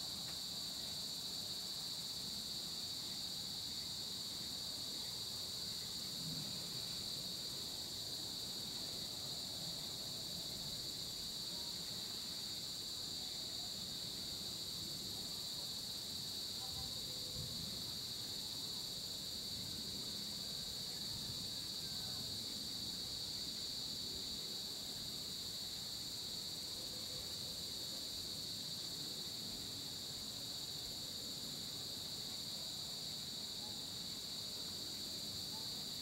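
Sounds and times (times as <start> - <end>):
faint low background noise: 0.0 - 36.0
high-pitched insect chorus: 0.0 - 36.0.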